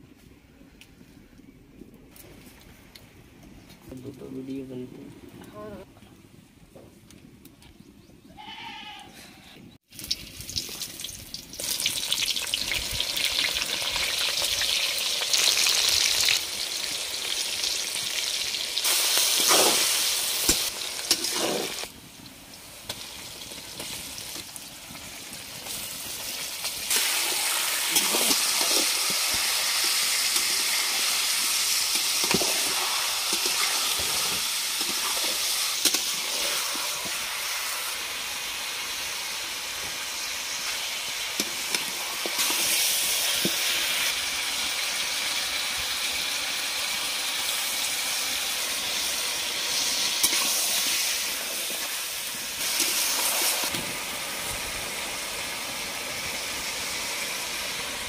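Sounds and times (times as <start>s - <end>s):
chicken sizzling in oil: 9.9s - 58.0s.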